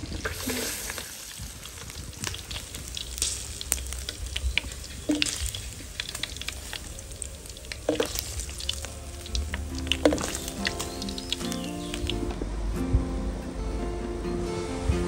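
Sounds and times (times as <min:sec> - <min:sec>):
food frying in hot oil: 0:00.0 - 0:12.4.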